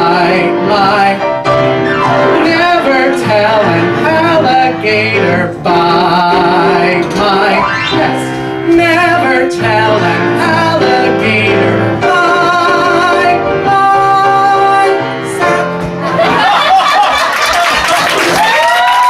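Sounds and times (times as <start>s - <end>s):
grand piano accompaniment: 0.0s - 19.0s.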